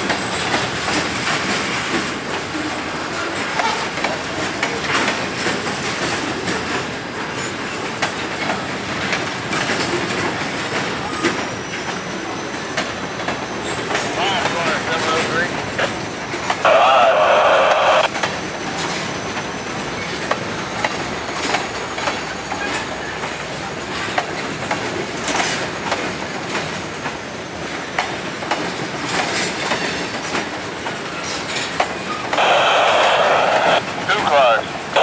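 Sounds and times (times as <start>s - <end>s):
train wheels clanking over rail joints: 0.0s - 16.6s, 18.1s - 32.4s.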